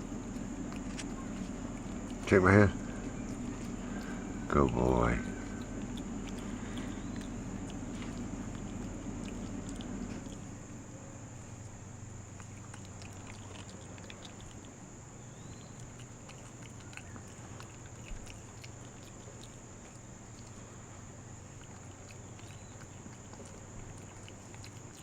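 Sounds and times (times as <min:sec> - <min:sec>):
background hum: 0:00.0 - 0:25.0
monkey chewing: 0:00.0 - 0:25.0.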